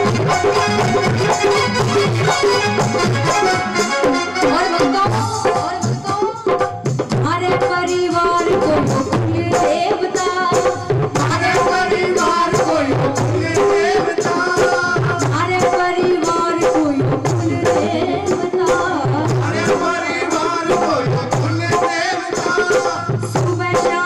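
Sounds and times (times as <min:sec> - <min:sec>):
hand drum beat: 0:00.0 - 0:24.0
woman singing devotional song: 0:04.3 - 0:24.0.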